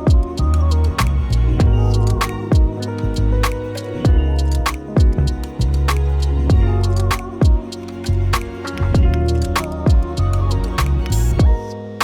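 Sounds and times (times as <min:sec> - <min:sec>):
deep bass line: 0:00.0 - 0:11.7
plucked guitar tune: 0:00.0 - 0:12.0
kick drum and hi-hat beat: 0:00.1 - 0:00.7, 0:01.6 - 0:11.6.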